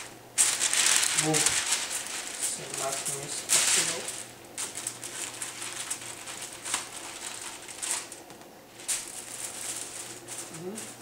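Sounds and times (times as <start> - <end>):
paper and foil crinkling: 0.0 - 11.0.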